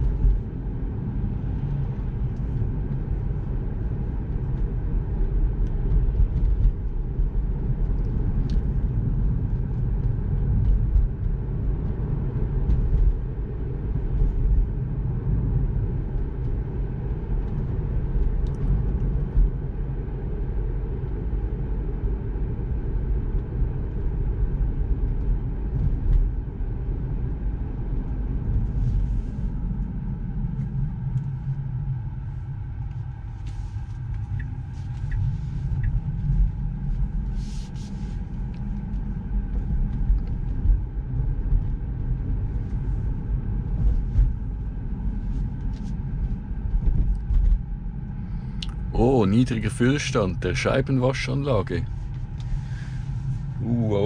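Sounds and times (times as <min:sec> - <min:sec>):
road and tyre rumble in car: 0:00.0 - 0:54.0.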